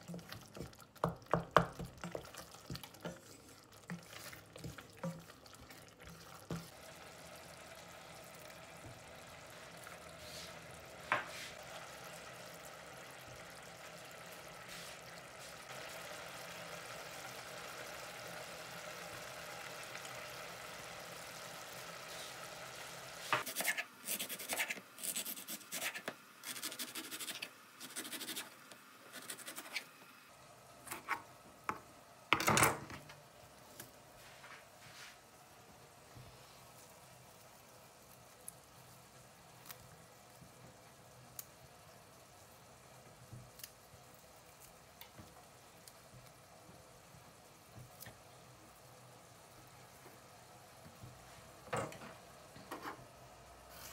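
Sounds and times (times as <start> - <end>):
sauce sizzling in a saucepan: 0.0 - 23.5, 33.3 - 53.9.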